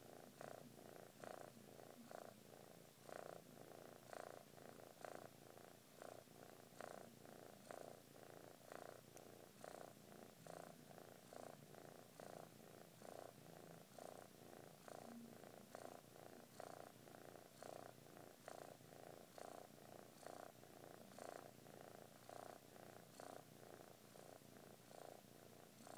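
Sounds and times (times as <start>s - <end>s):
kitten purring: 0.0s - 25.9s.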